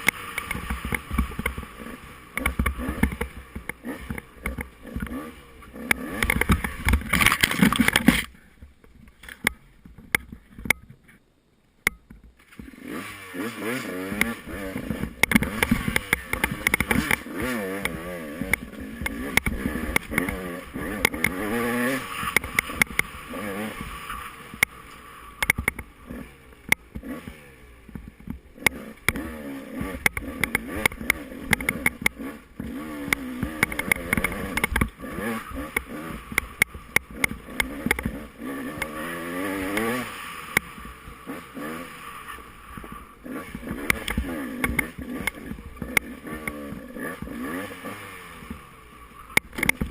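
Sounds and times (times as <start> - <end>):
dirt bike engine revving: 0.0 - 8.4, 12.4 - 49.9.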